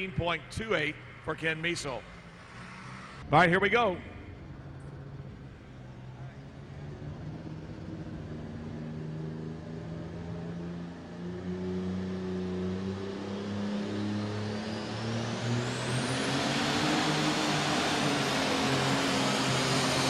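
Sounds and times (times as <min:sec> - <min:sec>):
tractor engine running hard: 0:00.0 - 0:20.0
turbocharger whine: 0:00.0 - 0:20.0.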